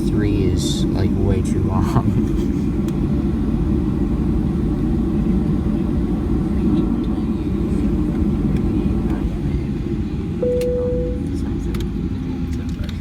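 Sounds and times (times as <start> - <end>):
airplane cabin rumble: 0.0 - 13.0
jet engines idling: 0.0 - 13.0.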